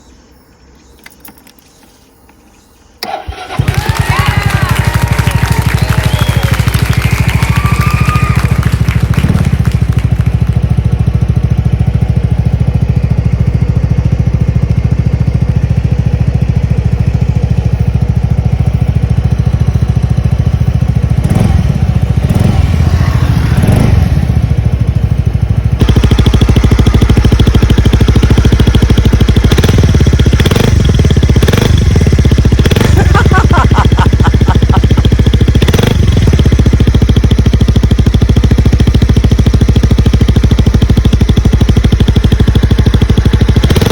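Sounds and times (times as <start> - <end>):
scooter engine idling: 2.8 - 43.9.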